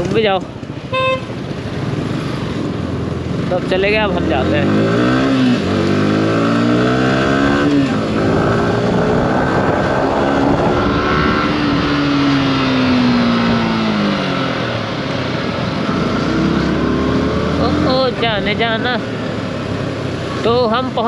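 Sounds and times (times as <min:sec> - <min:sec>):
wind noise: 0:00.0 - 0:19.0
motorcycle engine pulling away: 0:00.0 - 0:20.5.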